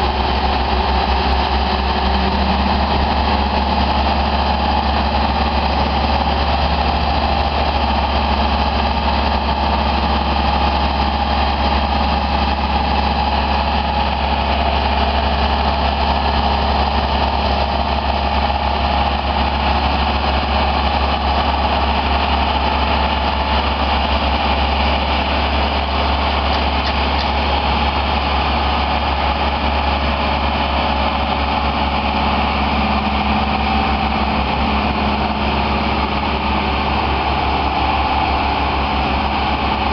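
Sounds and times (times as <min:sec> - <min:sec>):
boom lift engine running: 0:00.0 - 0:39.9.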